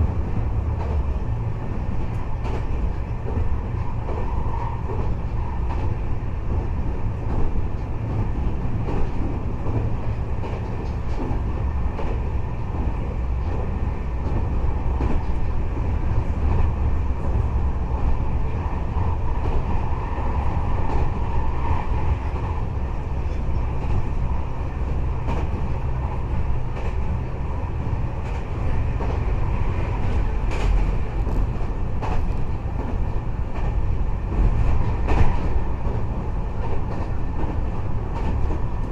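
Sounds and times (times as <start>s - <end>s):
train rumble: 0.0s - 38.9s.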